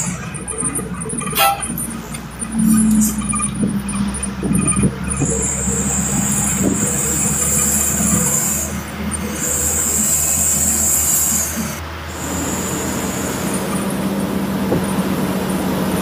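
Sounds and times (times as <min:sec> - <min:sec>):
high-pitched whine: 0:00.0 - 0:16.0
road noise: 0:00.0 - 0:16.0
truck engine hum: 0:00.0 - 0:16.0.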